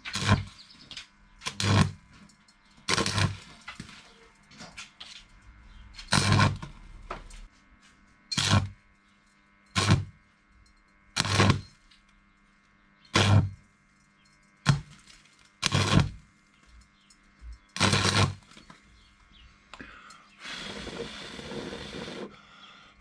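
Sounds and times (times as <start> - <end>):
electric welding crackling: 0.0 - 19.3
faint steady hum: 0.0 - 23.0.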